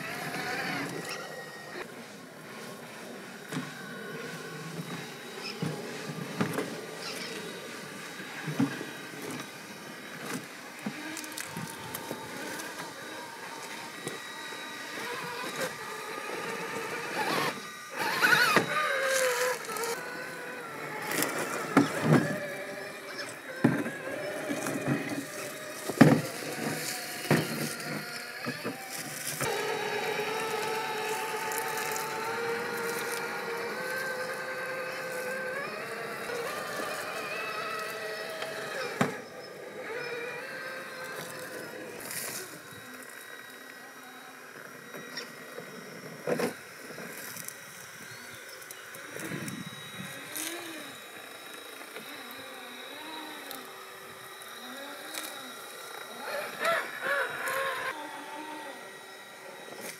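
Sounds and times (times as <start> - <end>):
electric motor and gears whining: 0.0 - 59.9.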